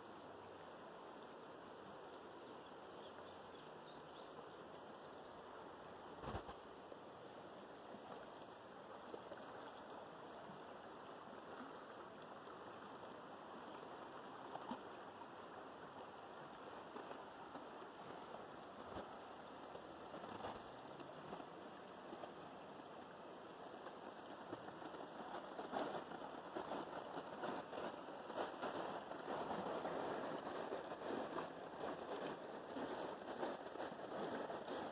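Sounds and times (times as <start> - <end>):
flowing river: 0.0 - 34.9.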